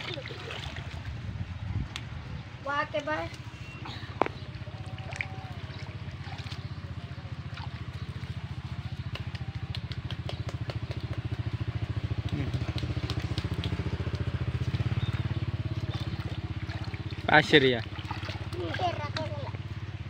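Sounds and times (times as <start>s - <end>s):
small engine chugging: 3.5s - 20.0s.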